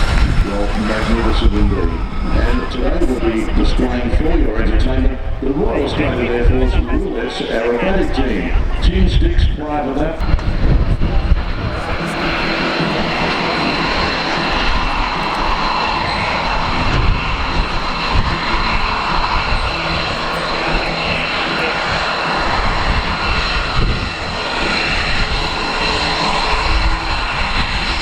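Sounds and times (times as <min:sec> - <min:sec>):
aircraft engines rumbling: 0:00.0 - 0:28.0
steady high whine: 0:00.0 - 0:28.0.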